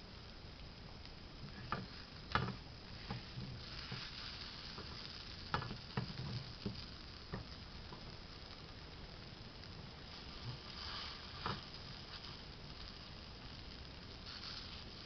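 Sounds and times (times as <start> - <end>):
pancake batter sizzling in pan: 0.0 - 15.0.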